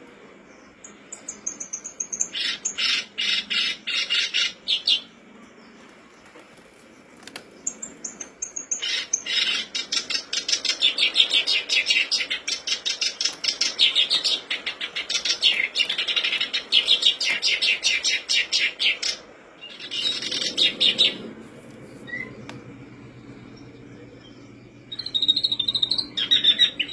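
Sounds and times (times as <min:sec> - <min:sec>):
warbler singing harsh chattering song: 0:00.4 - 0:06.2, 0:06.9 - 0:26.9.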